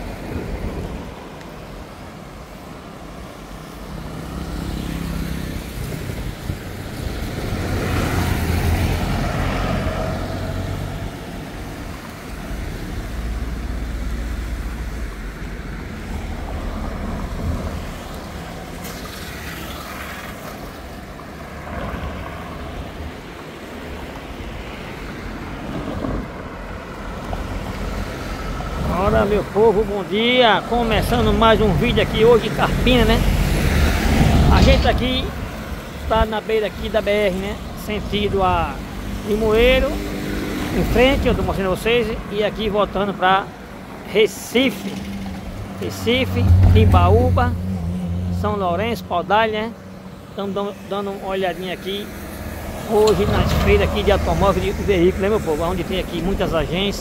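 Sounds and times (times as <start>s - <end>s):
low traffic rumble: 0.0s - 57.0s
vehicles passing: 0.0s - 57.0s.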